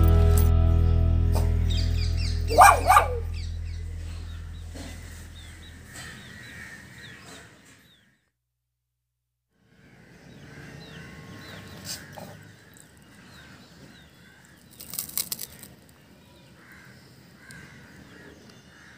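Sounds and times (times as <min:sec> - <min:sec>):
small birds chirping: 0:01.6 - 0:08.3, 0:09.7 - 0:18.9.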